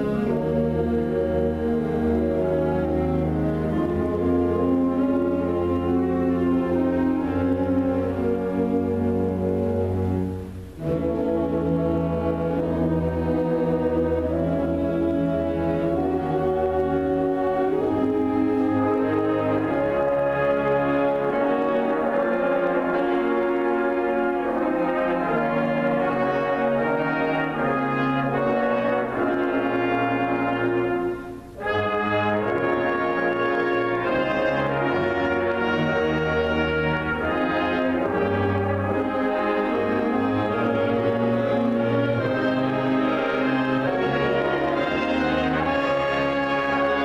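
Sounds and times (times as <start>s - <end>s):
concert band brass chords: 0.0s - 47.0s.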